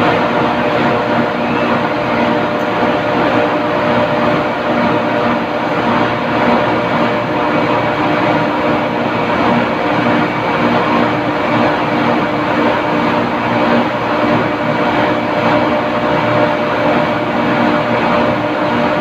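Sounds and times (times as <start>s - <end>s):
refrigeration machinery drone: 0.0s - 19.0s.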